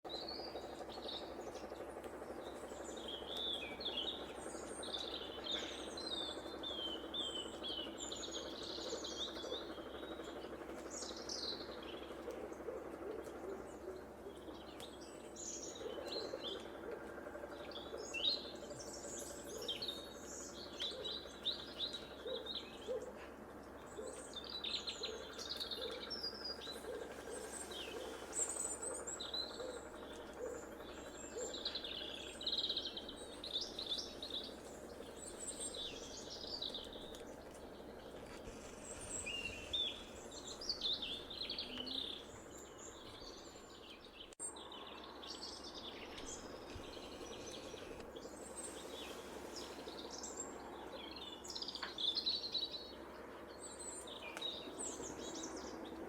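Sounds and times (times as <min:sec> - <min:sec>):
songbirds chirping: 0:00.0 - 0:56.0
distant construction hum: 0:00.1 - 0:56.0.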